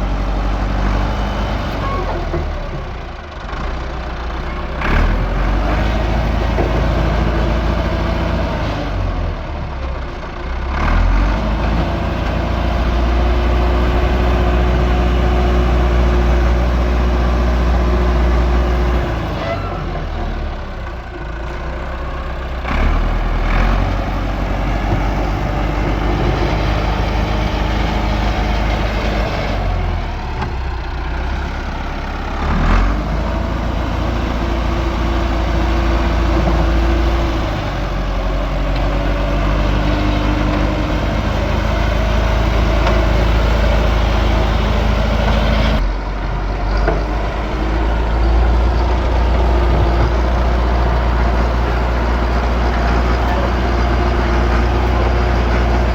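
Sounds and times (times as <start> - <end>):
engine rumbling: 0.0 - 55.9.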